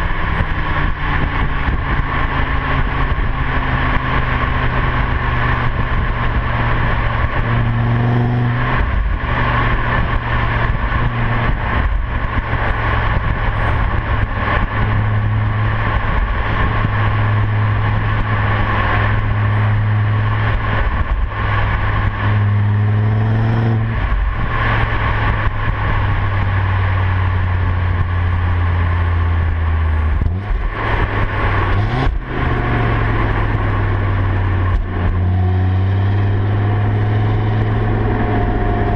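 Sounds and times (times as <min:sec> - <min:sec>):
car engine and exhaust droning: 0:00.0 - 0:38.9.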